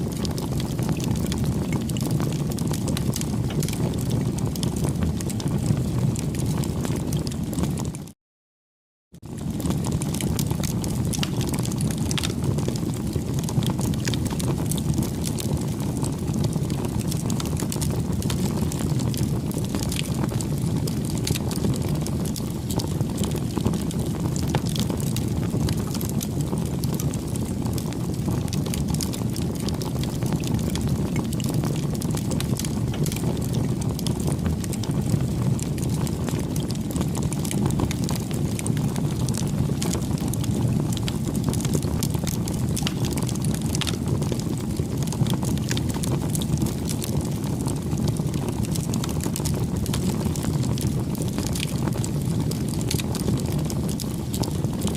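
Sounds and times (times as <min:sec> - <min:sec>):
burning wood crackling and popping: 0:00.0 - 0:08.0, 0:09.2 - 0:54.9
rush of bonfire flames: 0:00.0 - 0:08.2, 0:09.2 - 0:54.9.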